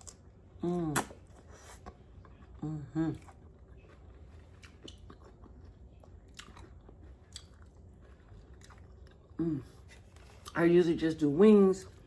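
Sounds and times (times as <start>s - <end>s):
chewing and lip smacks: 0.9s - 10.6s.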